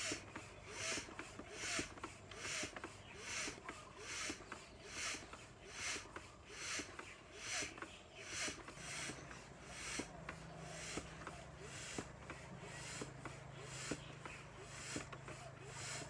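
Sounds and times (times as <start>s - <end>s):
hand air pump whooshing: 0.0s - 16.0s.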